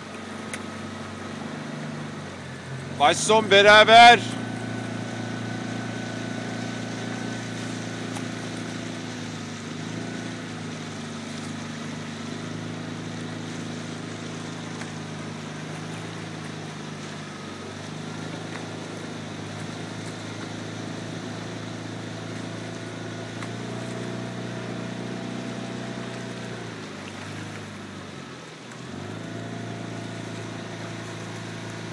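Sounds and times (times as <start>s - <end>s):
outboard motor humming: 0.0s - 31.9s.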